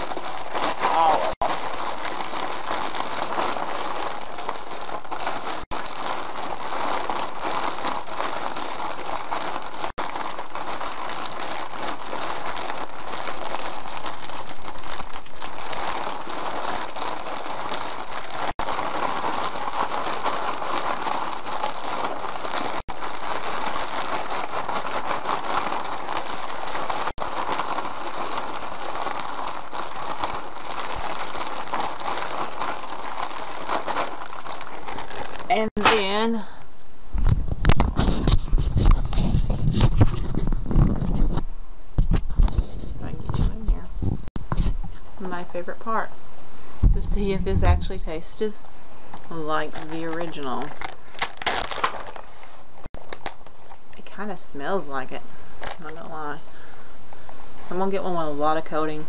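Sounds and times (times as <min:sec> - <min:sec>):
plastic bag crinkling: 0:00.0 - 0:36.4, 0:37.2 - 0:41.5, 0:46.9 - 0:54.1, 0:55.2 - 0:58.6.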